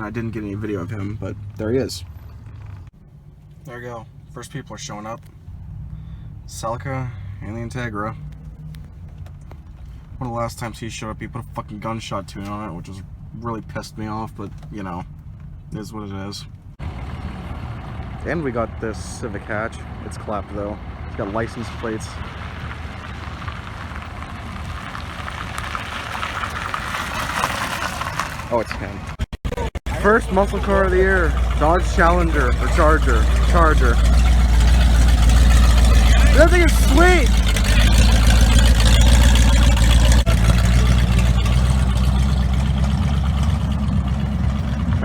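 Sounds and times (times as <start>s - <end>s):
car engine rumble: 0.0s - 45.0s
tyre and road noise: 0.0s - 45.0s.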